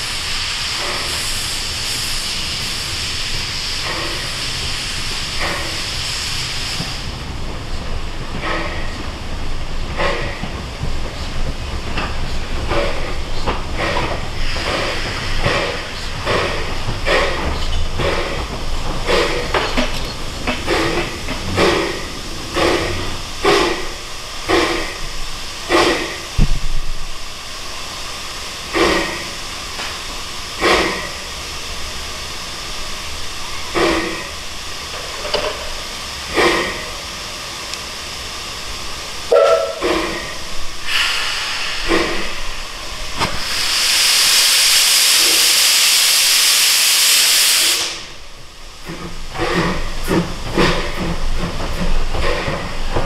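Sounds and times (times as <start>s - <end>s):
loud steam hiss: 0.0s - 53.0s
steam locomotive exhaust chuffs: 0.0s - 53.0s.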